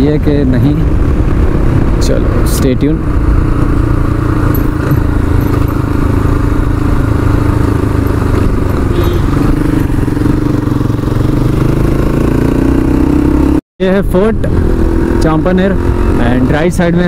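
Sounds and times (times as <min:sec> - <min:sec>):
motorcycle engine running: 0:00.0 - 0:13.6, 0:14.4 - 0:17.0
road and wind noise: 0:00.0 - 0:17.0.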